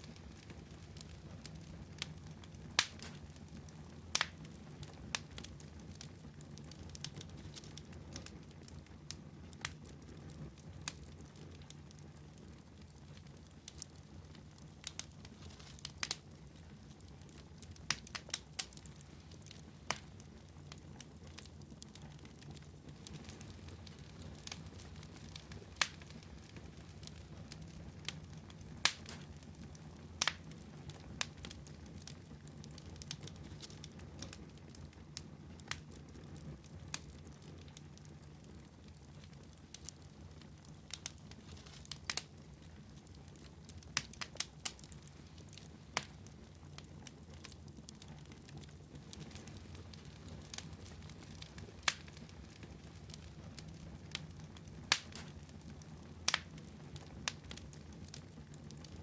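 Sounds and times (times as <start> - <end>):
low fire rumble: 0.0 - 59.0
wood fire crackling: 0.0 - 59.0.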